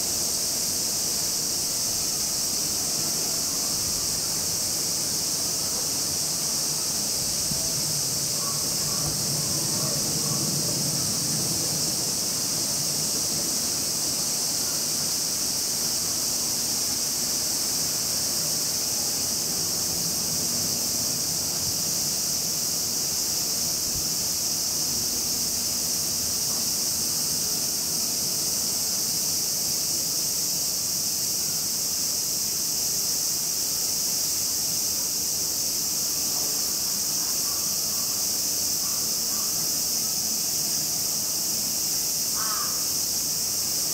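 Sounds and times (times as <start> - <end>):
shrill insect chorus: 0.0 - 43.9.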